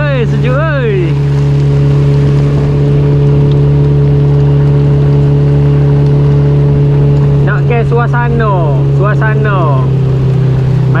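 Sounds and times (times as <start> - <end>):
outboard motor humming: 0.0 - 11.0
water rushing along hull: 0.0 - 11.0.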